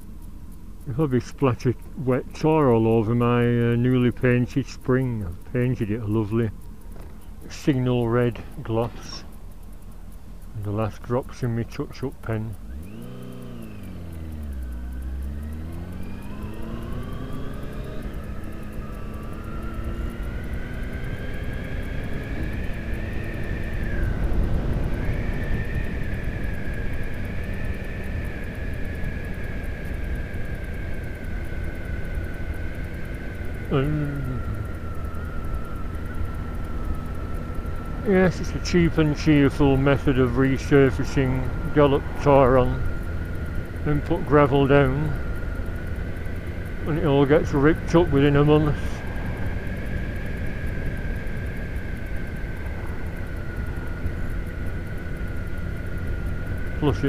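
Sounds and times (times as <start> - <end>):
high whine sinking in pitch: 0.0 - 57.0
motorcycle riding at speed: 0.0 - 57.0
wind and road noise: 0.0 - 57.0.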